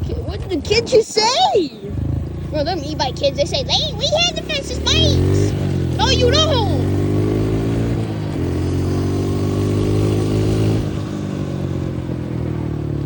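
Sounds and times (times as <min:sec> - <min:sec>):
dirt bike engine running: 0:01.9 - 0:13.0.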